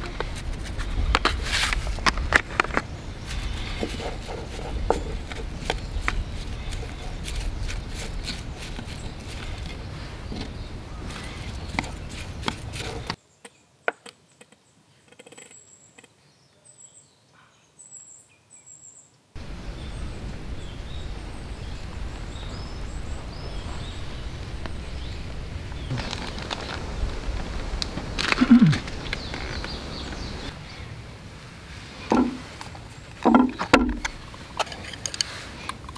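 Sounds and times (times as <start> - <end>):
birds chirping: 0.0 - 35.9
steady outdoor noise: 0.0 - 35.9.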